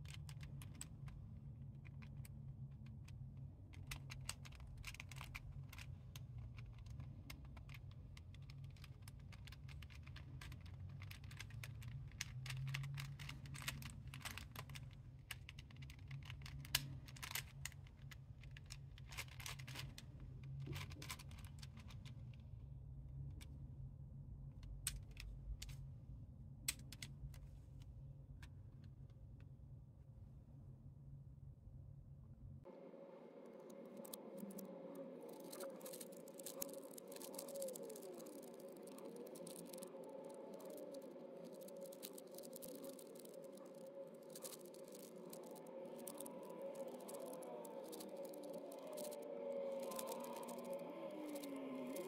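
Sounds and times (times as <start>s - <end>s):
plastic puzzle pieces clicking: 0.0s - 22.2s, 24.6s - 25.8s, 26.6s - 27.4s, 33.7s - 52.0s.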